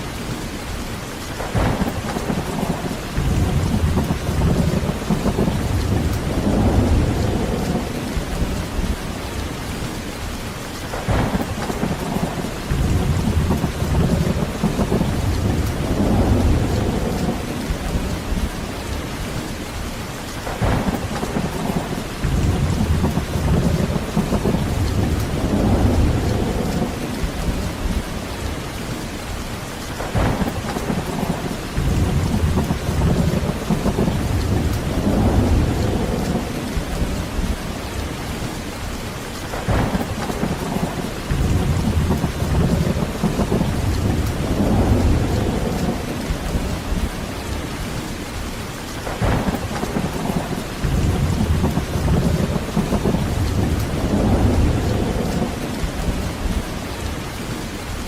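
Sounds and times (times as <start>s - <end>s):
heavy rain: 0.0s - 58.0s
thunder cracking and rolling: 1.4s - 9.1s, 10.9s - 18.6s, 20.4s - 28.2s, 29.9s - 38.0s, 39.5s - 47.3s, 49.0s - 56.9s.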